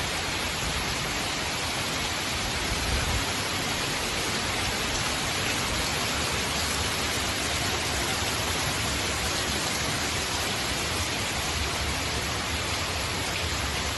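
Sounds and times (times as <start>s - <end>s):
heavy rain: 0.0s - 13.9s.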